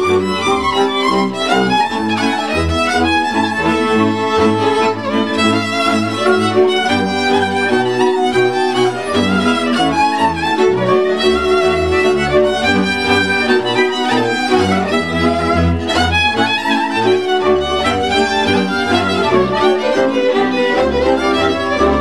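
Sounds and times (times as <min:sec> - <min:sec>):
double bass low notes: 0:00.0 - 0:22.0
fiddles playing melody: 0:00.0 - 0:22.0
viola chords: 0:00.0 - 0:22.0.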